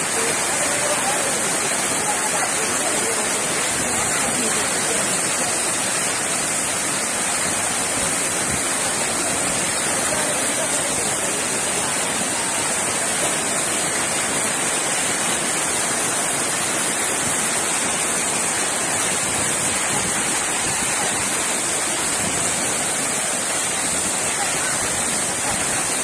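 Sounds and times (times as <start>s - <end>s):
heavy rain hissing: 0.0s - 26.0s
water pouring off roof: 0.0s - 26.0s.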